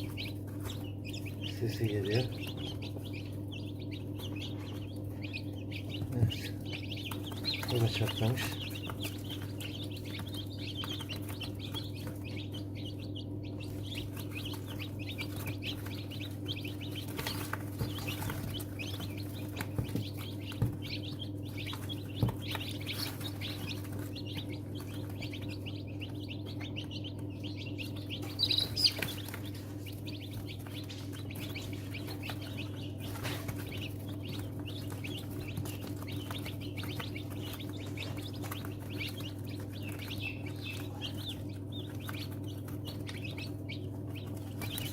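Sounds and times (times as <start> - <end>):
chicks peeping: 0.0 - 44.9
egg incubator humming: 0.0 - 44.9.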